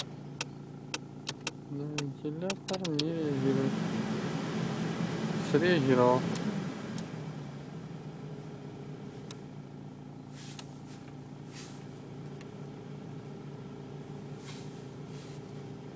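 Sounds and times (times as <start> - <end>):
car heater blower humming: 0.0 - 15.9.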